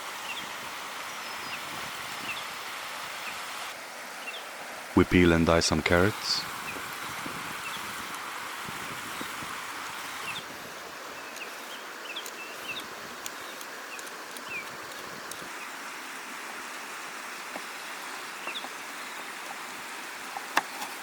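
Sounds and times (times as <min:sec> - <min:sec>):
running stream: 0:00.0 - 0:21.0.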